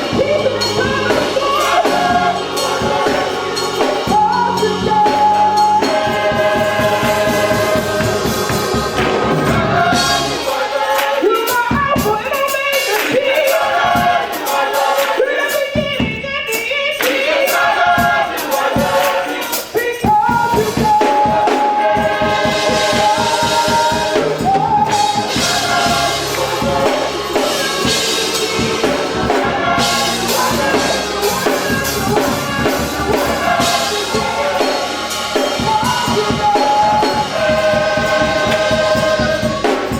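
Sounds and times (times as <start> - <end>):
choir singing: 0.0 - 39.9
drum kit beat: 0.0 - 39.9.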